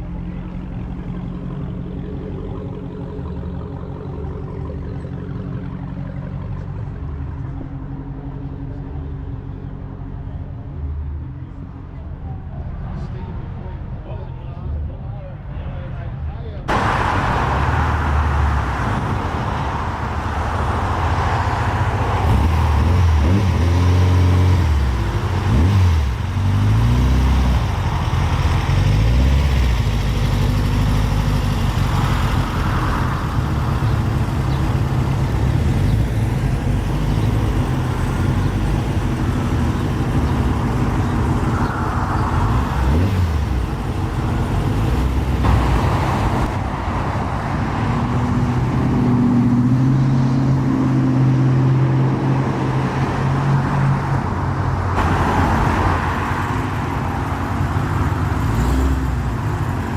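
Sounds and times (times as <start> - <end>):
car engines rumbling: 0.0 - 59.9.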